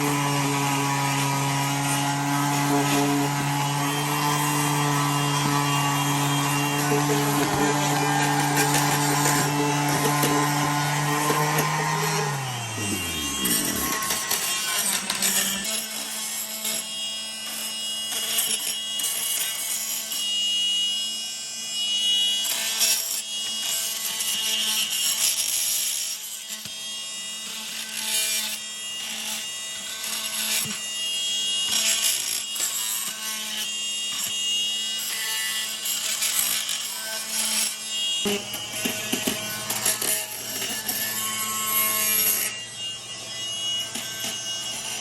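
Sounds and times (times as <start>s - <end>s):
power tool sanding metal: 0.0s - 45.0s.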